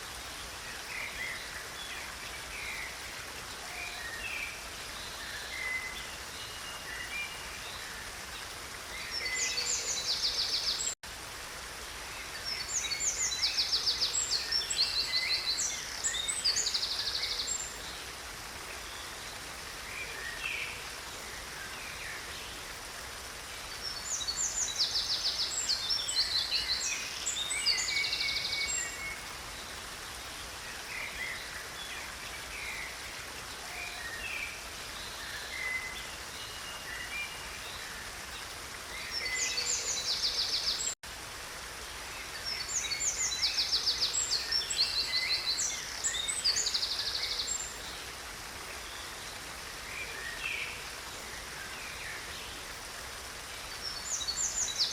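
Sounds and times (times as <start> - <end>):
small stream rushing: 0.0 - 54.9.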